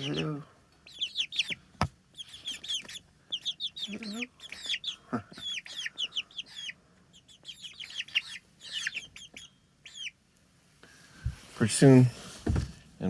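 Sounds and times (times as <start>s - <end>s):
chicks peeping: 0.0s - 12.7s.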